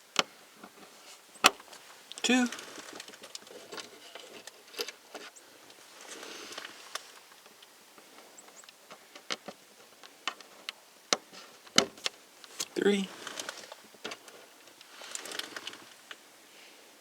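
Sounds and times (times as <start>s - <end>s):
soft handling rustle: 0.6s - 10.7s, 11.3s - 16.9s.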